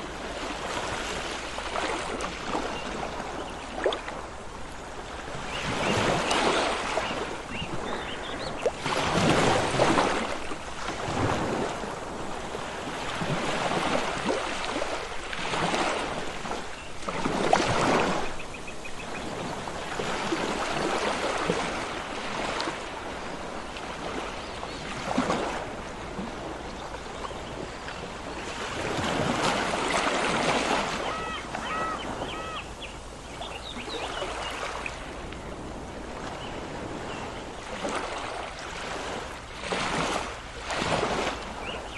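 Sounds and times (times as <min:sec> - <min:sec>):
waves breaking: 0:00.0 - 0:41.9.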